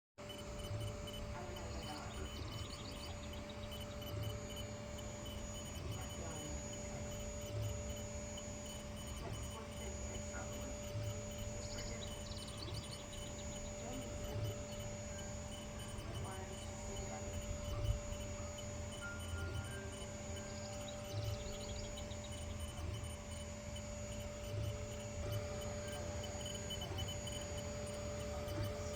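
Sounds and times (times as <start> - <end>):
laser engraver humming: 0.2 - 28.9
motors whirring chirps: 0.2 - 28.9.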